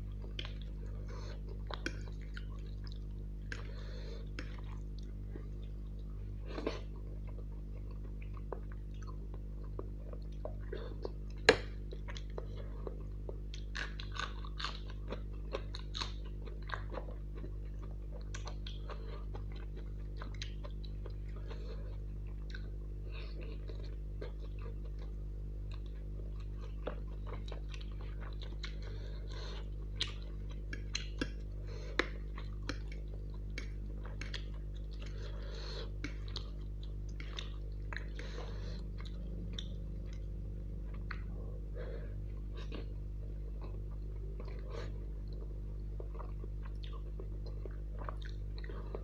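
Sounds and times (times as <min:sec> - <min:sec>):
chewing mouth sounds: 0:00.0 - 0:41.6, 0:42.2 - 0:49.0
steady low hum: 0:00.0 - 0:49.0.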